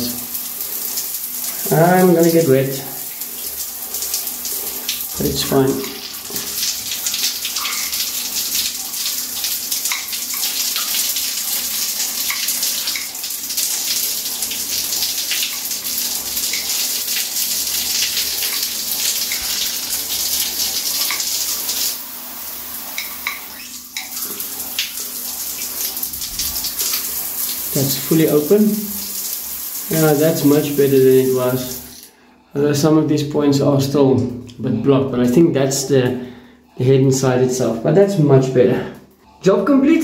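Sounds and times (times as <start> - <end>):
shower spraying on tiled wall: 0.0 - 32.2.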